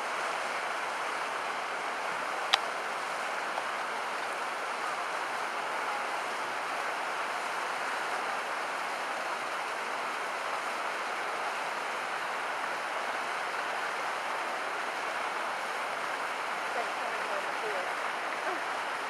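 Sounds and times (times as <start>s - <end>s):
stream rushing over rapids: 0.0s - 19.0s.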